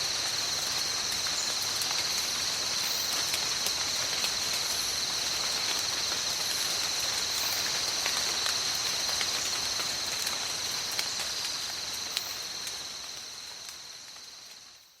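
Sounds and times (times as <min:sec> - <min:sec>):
forest rain: 0:00.0 - 0:15.0.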